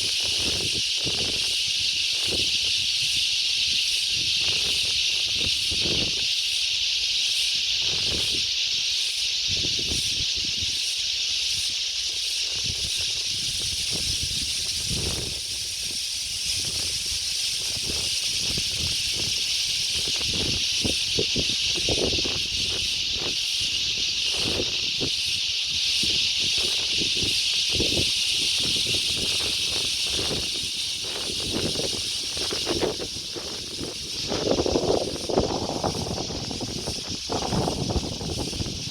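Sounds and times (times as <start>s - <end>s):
wind buffeting microphone: 0.0s - 6.3s, 7.6s - 8.7s, 9.4s - 10.8s, 12.5s - 38.9s
insects droning: 0.0s - 38.9s.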